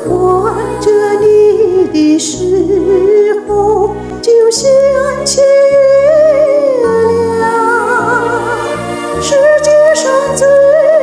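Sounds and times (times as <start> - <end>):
recorded accompaniment with bass: 0.0 - 11.0
woman singing slow song: 0.0 - 11.0.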